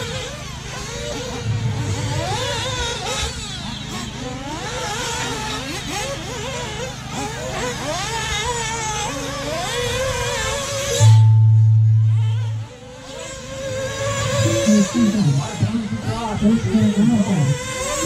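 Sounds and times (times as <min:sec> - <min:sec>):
rc car motors whining: 0:00.0 - 0:18.0
steady low hum: 0:00.0 - 0:18.0.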